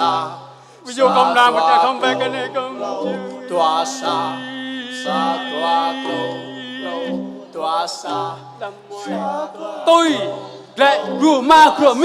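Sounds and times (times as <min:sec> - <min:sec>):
person singing folk song: 0:00.0 - 0:12.0.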